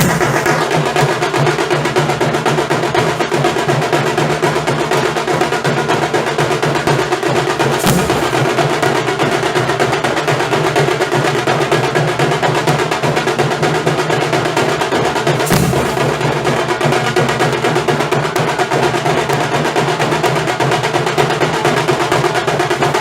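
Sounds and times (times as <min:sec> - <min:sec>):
drum ensemble drumming: 0:00.0 - 0:23.0.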